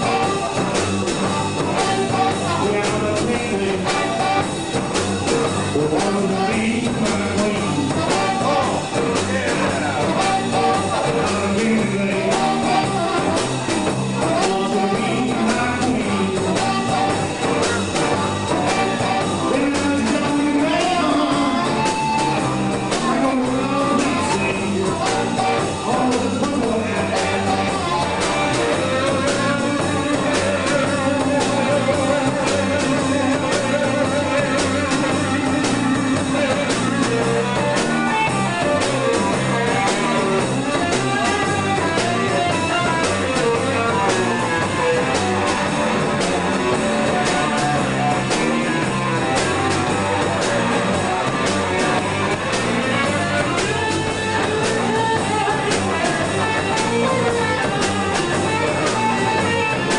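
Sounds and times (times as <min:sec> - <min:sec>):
blues band playing: 0:00.0 - 0:59.9
harmonica wavering notes: 0:00.0 - 0:59.9.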